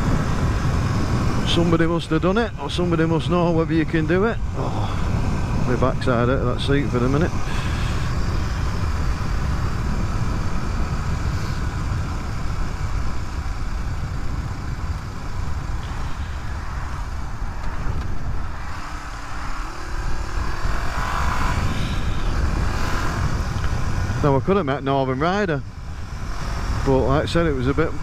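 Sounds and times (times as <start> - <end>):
motorcycle engine running: 0.0 - 28.0
wind noise: 0.0 - 28.0.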